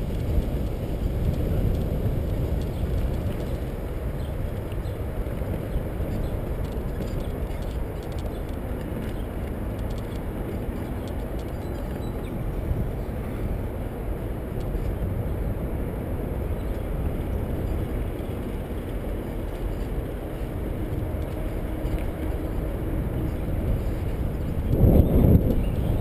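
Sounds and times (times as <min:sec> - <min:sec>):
bicycle tyre noise: 0:00.0 - 0:26.0
wind on microphone: 0:00.0 - 0:26.0.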